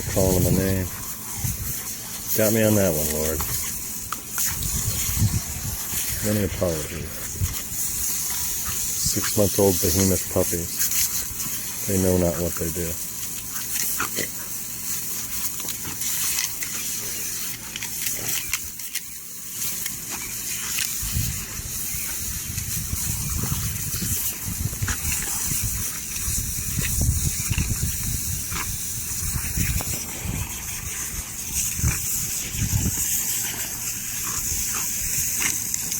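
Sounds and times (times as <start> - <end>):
low rumbling noise: 0.0 - 16.4, 20.2 - 35.9
sprinkler spraying water: 0.0 - 35.9.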